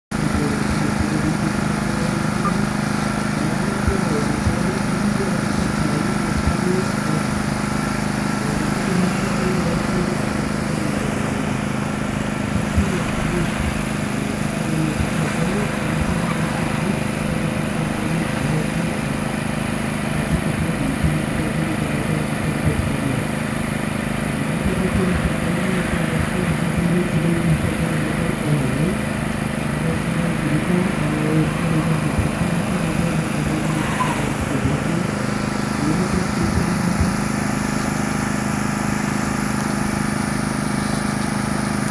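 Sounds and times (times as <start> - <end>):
steady low drone: 0.1 - 40.4
car engine revving: 0.1 - 41.9.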